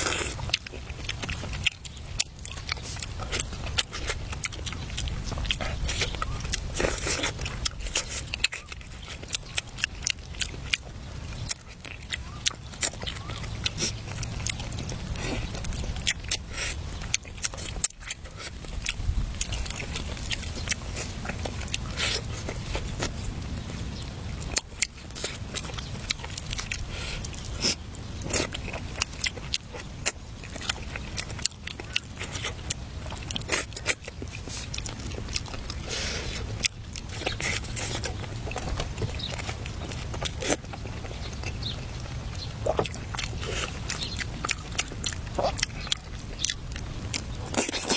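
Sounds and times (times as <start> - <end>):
crisp biting and chewing: 0.0 - 47.9.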